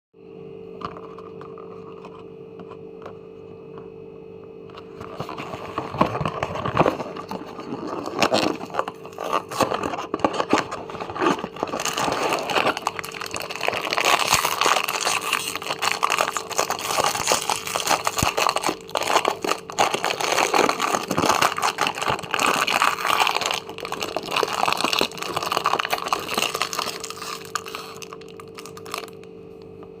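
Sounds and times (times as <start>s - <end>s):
steady low hum: 0.2s - 30.0s
biscuit packet crinkling: 5.0s - 29.3s.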